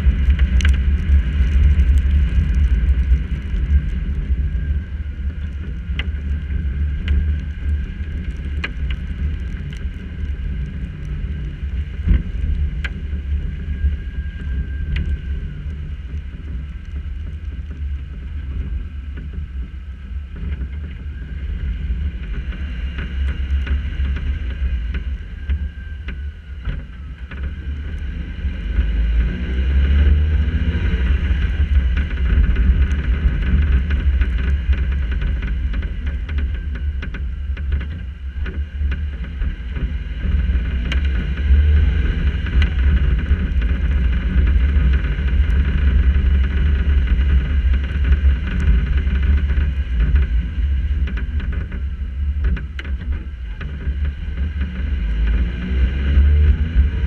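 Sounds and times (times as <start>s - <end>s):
raindrops ticking on camera: 0.0s - 28.2s, 28.8s - 57.0s
muffled road and wind rumble: 0.0s - 57.0s.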